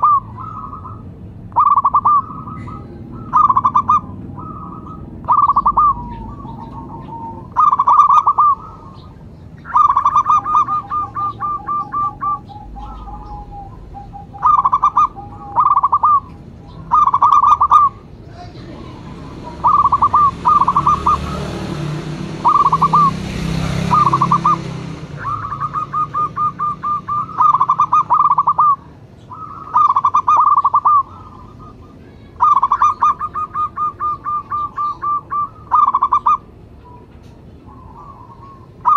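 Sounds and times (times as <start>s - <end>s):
doves cooing: 0.0s - 38.9s
lower bird notes: 0.0s - 38.9s.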